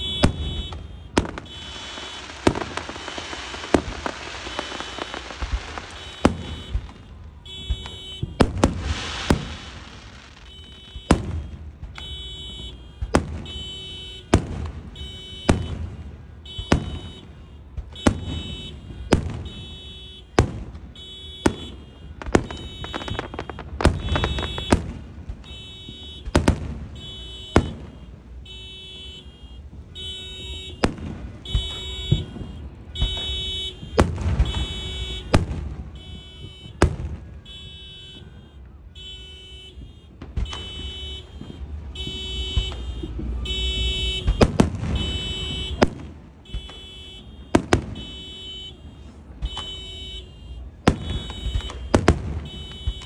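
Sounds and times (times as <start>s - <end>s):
car alarm beeping: 0.0s - 53.0s
firework bangs: 0.0s - 53.0s.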